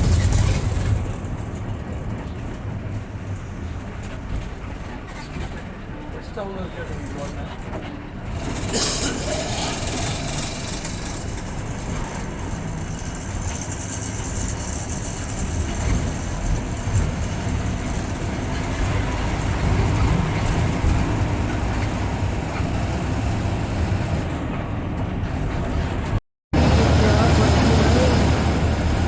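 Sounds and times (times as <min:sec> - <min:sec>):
bus engine and road noise: 0:00.0 - 0:29.0.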